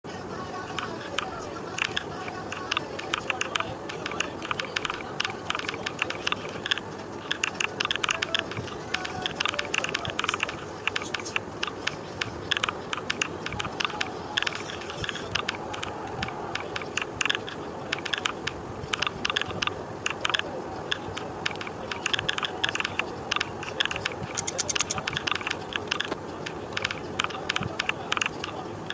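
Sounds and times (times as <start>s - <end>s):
steady background noise: 0.0s - 28.9s
keyboard keys clicking: 0.7s - 28.9s.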